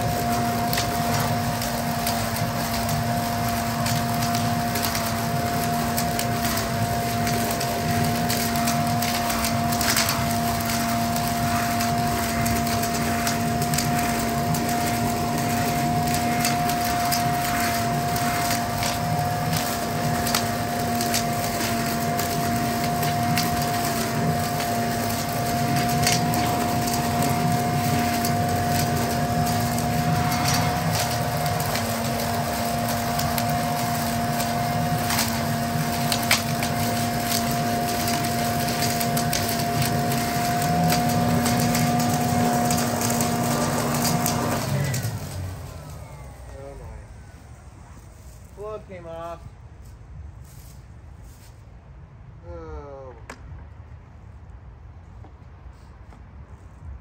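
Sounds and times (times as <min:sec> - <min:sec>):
leaf blower vacuum whining: 0:00.0 - 0:51.6
leaves and sticks crackling: 0:00.0 - 0:51.9.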